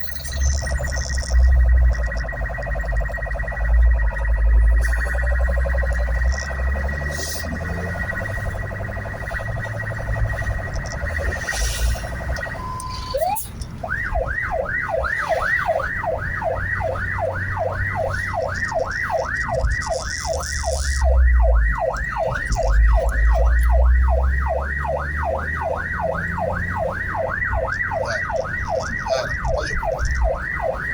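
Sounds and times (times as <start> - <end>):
electronic siren warbling and yelping: 0.0 - 30.9
vehicle driving rumble: 0.0 - 30.9.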